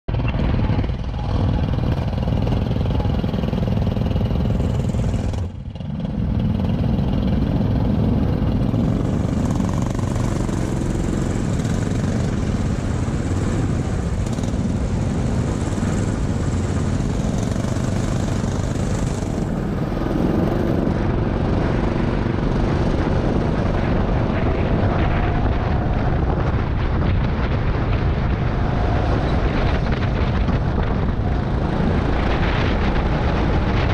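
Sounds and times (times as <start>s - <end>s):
go-kart engines running: 0.1s - 33.9s.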